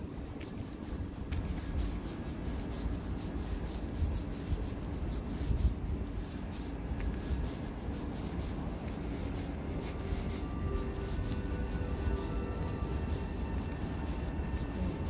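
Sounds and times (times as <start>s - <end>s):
faint hiss: 0.0s - 15.0s
low rumbling noise: 0.0s - 15.0s.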